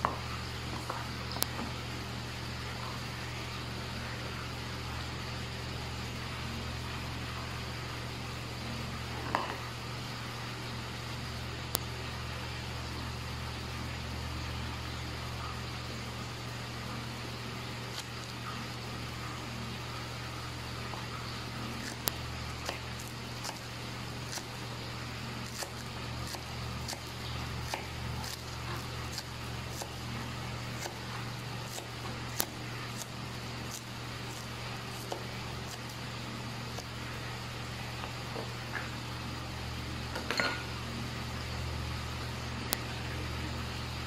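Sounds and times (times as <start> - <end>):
low appliance hum: 0.0 - 44.0.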